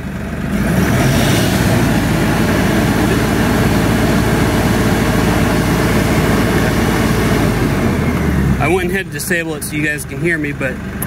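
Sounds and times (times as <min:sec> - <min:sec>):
tractor diesel engine at full throttle: 0:00.0 - 0:11.0.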